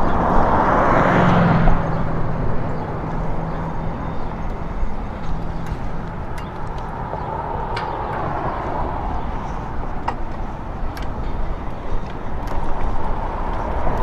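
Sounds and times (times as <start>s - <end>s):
passing traffic: 0.0s - 14.0s
wind rumble on microphone: 0.0s - 14.0s.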